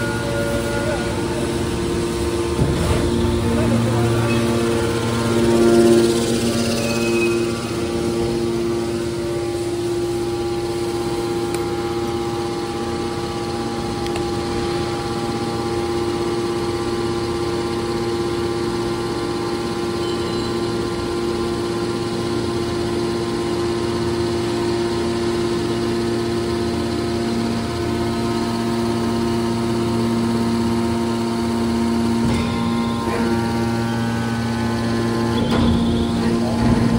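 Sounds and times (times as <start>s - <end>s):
hydraulic pump motor humming: 0.0s - 36.9s.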